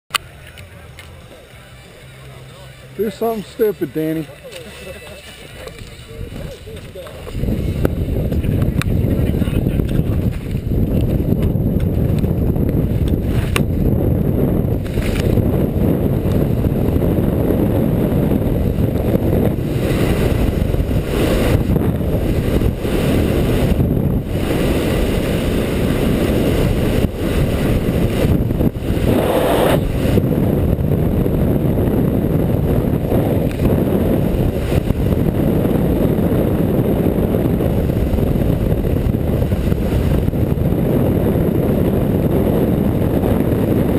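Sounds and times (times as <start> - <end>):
wind buffeting microphone: 5.0 - 43.9.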